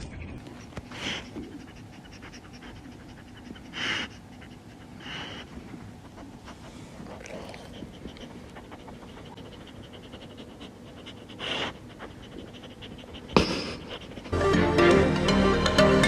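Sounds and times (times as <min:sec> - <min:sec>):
dog panting: 0:00.0 - 0:14.6.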